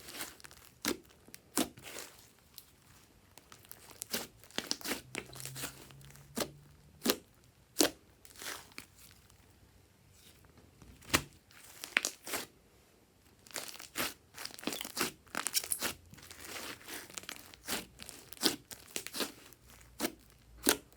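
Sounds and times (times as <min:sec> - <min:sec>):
slime crackling and squelching: 0:00.0 - 0:09.5, 0:11.0 - 0:12.5, 0:13.3 - 0:20.9.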